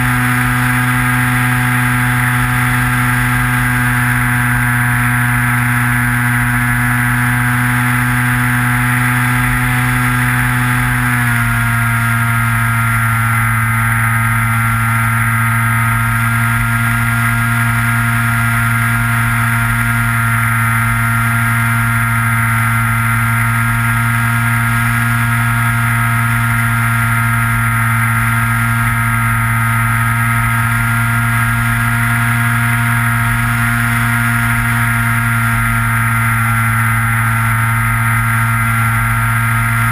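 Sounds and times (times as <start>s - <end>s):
model plane motor droning: 0.0s - 39.9s.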